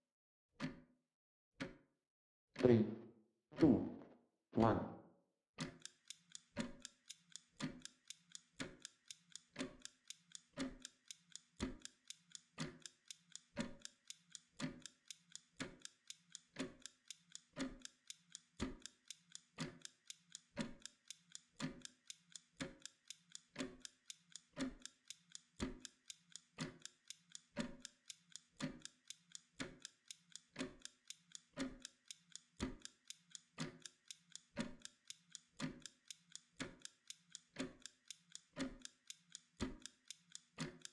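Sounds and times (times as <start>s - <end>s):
kitchen timer ticking: 5.6s - 40.9s.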